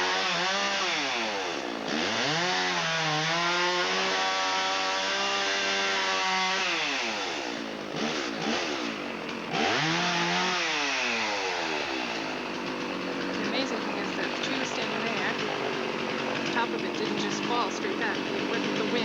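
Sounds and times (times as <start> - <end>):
chainsaw engine revving: 0.0 - 19.0.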